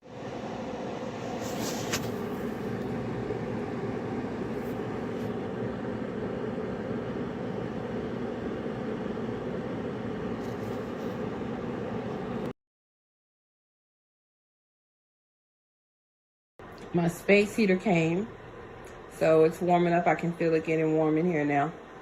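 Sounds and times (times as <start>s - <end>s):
fan heater blowing: 0.0s - 12.5s, 16.6s - 22.0s.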